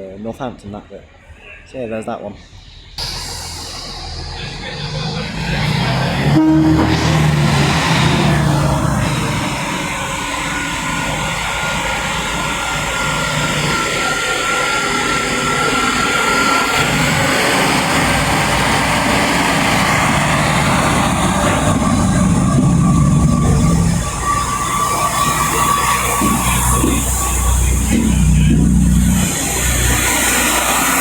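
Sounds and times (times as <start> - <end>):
train rumble and rail noise: 2.2 - 31.0
thin whine: 2.8 - 31.0.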